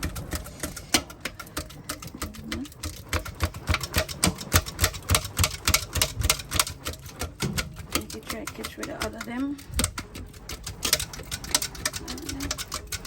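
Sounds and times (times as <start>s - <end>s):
hand fan flapping: 0.0s - 13.0s.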